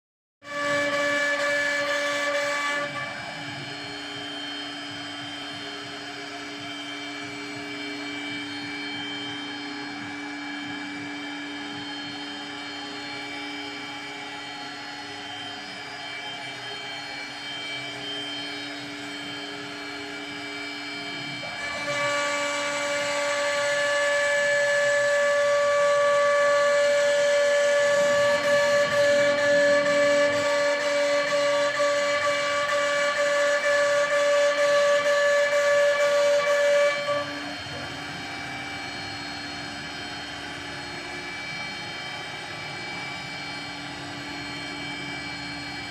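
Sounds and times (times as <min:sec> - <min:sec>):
router spindle whining: 0:00.4 - 0:45.9.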